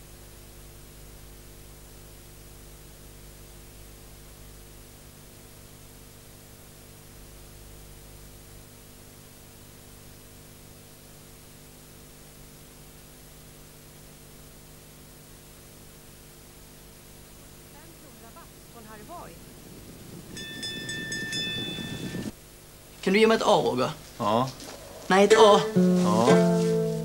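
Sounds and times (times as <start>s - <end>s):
low electrical hum: 0.0s - 27.0s
steady tape hiss: 0.0s - 27.0s.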